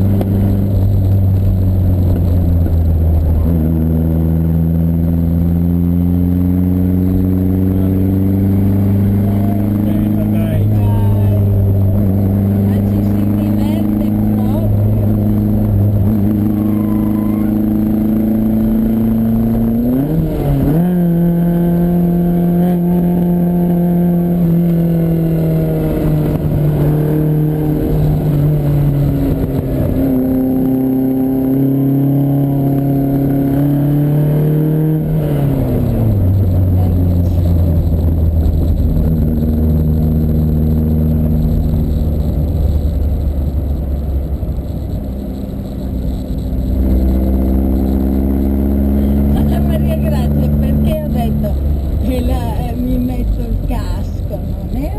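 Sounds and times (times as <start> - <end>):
car engine revving while driving: 0.0 - 54.9.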